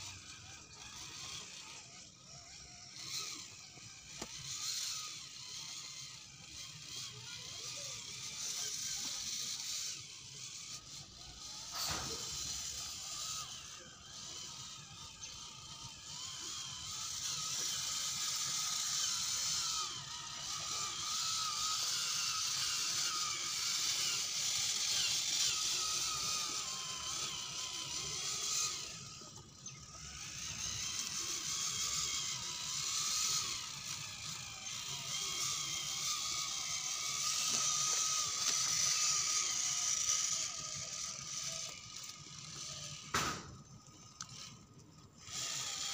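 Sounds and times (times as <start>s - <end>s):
electric motor whining: 0.0s - 45.9s.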